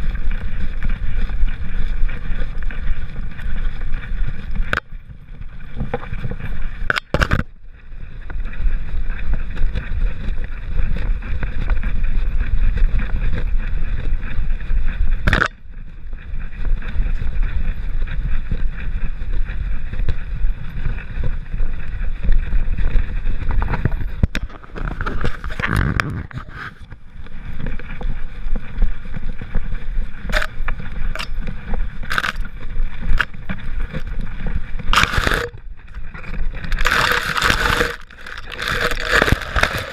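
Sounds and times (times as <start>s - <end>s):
camera case rubbing rumble: 0.0s - 39.9s.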